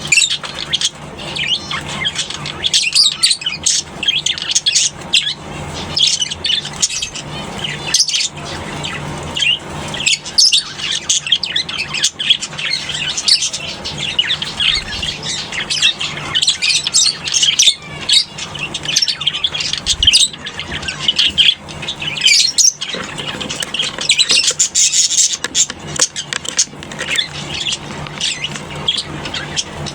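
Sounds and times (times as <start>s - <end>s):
birds chirping and squawking: 0.0s - 29.9s.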